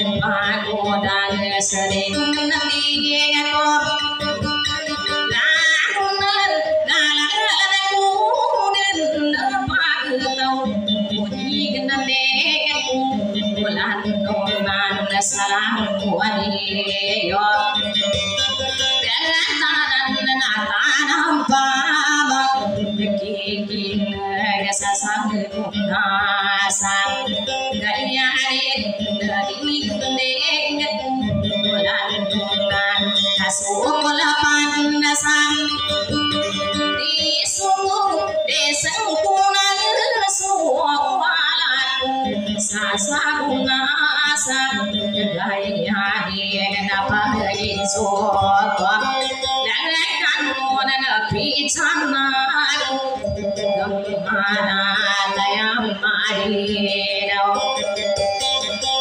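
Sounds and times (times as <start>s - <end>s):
woman singing into microphone: 0.0s - 59.0s.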